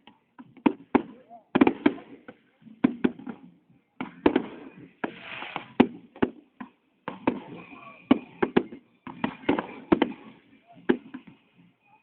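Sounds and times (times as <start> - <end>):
fireworks bangs: 0.6 - 11.5.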